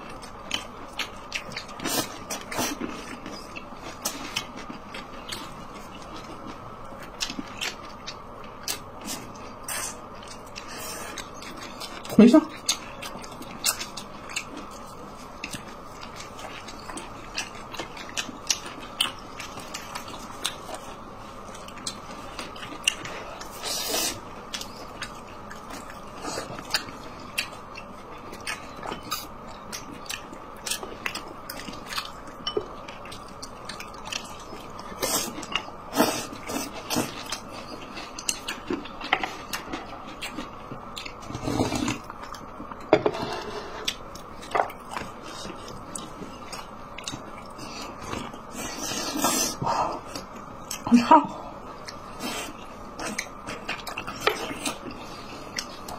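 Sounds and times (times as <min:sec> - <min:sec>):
chewing and mouth clicks: 0:00.0 - 0:42.9, 0:43.8 - 0:48.8, 0:51.8 - 0:55.9.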